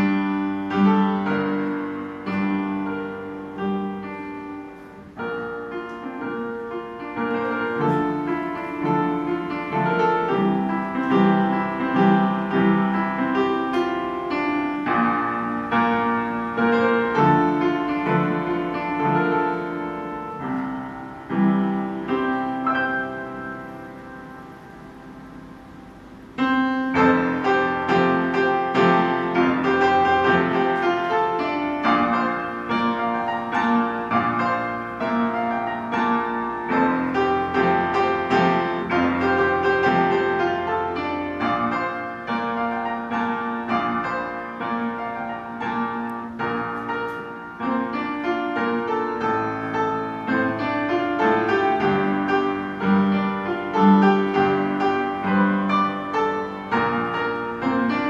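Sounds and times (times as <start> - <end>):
upright piano playing: 0.0 - 58.0.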